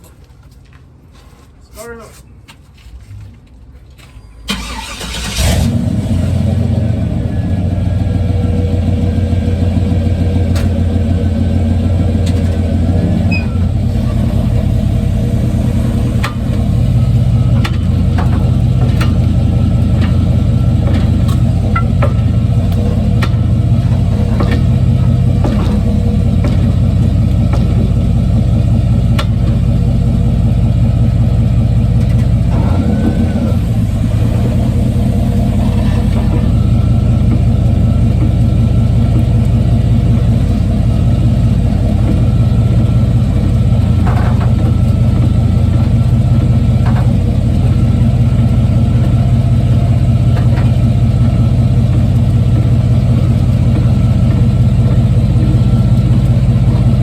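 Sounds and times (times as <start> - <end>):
truck engine running: 4.5 - 57.0.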